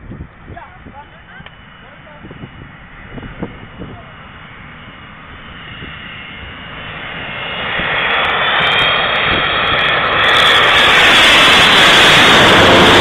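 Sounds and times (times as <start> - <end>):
aircraft engine rushing with whine: 0.0 - 13.0.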